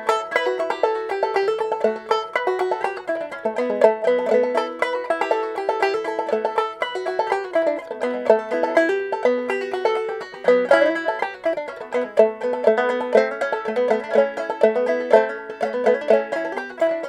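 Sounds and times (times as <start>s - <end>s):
banjo plucked melody: 0.0s - 17.0s.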